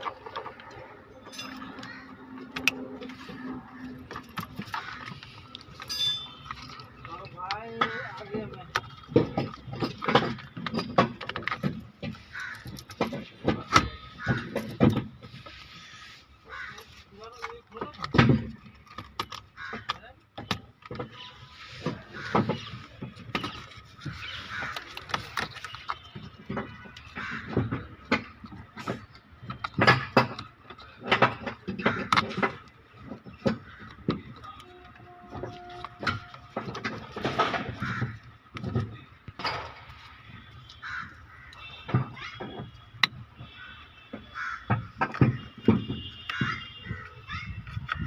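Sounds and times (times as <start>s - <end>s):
hand tools clanking on metal parts: 0.0s - 48.0s.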